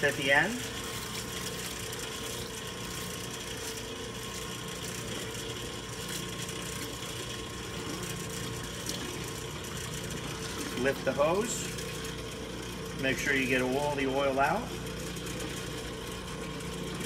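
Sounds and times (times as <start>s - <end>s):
electric motor and pump humming: 0.0s - 17.0s.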